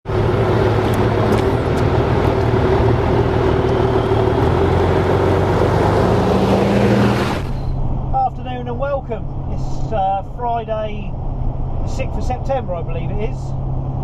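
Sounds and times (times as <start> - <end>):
truck diesel engine drone: 0.0 - 14.0
road and wind hiss: 0.1 - 14.0.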